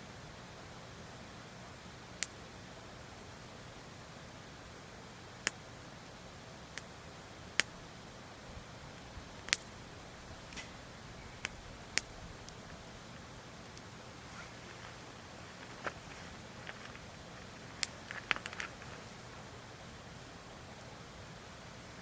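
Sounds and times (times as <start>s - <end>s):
faint steady hiss: 0.0s - 22.0s
wood fire crackling: 0.2s - 22.0s.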